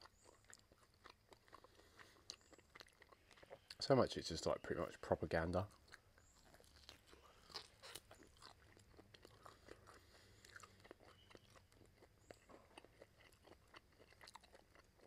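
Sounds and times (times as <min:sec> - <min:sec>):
faint chewing with mouth clicks: 0:00.0 - 0:15.0.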